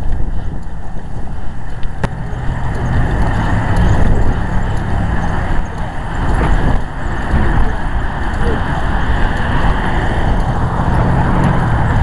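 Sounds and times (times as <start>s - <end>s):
motor vehicle engine rumbling: 0.0s - 12.0s.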